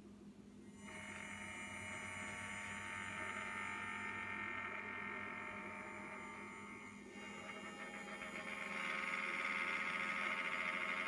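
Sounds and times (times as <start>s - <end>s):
gimbal motors buzzing whine: 0.6s - 11.0s.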